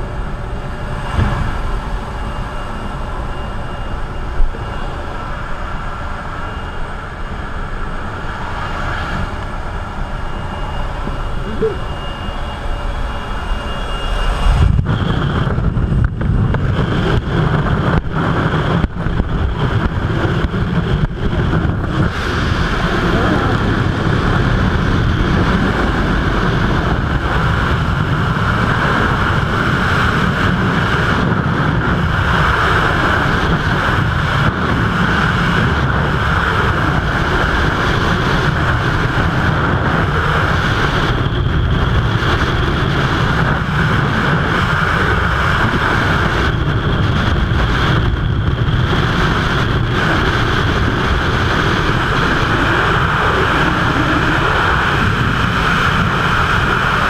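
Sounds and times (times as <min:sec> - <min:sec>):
wind roaring over microphone: 0:00.0 - 0:57.0.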